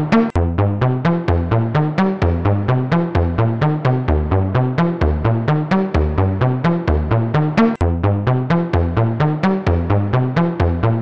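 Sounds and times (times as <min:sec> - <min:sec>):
electronic music with fast beat: 0:00.0 - 0:11.0.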